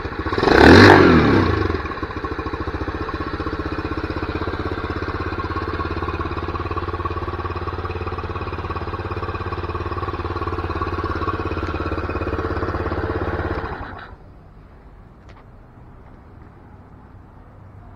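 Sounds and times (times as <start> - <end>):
motorcycle engine idling: 0.0 - 14.4.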